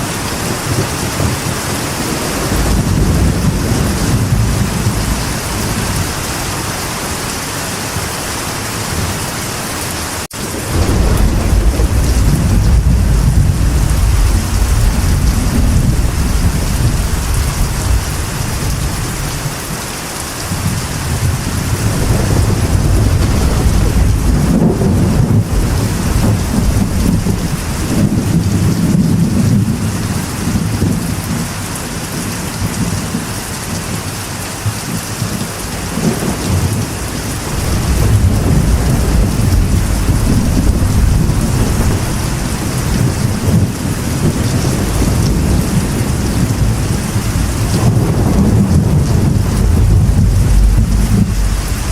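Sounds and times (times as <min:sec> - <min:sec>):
rolling thunder: 0:00.0 - 0:07.2, 0:10.3 - 0:19.8, 0:20.4 - 0:34.0, 0:34.6 - 0:51.9
rain drumming on a metal roof: 0:00.0 - 0:51.9.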